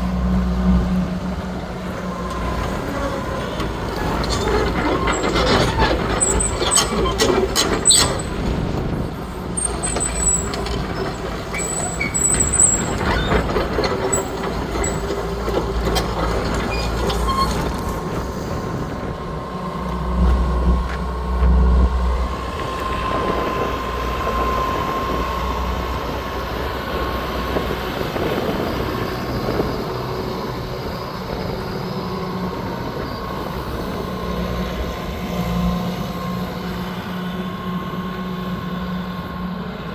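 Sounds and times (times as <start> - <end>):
excavator diesel engine rumble: 0.0 - 39.9.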